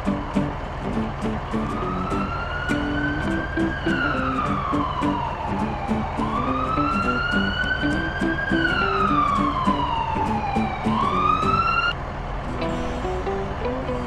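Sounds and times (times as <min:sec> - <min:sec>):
light music with ticking beat: 0:00.0 - 0:11.4
emergency siren wailing: 0:00.0 - 0:12.0.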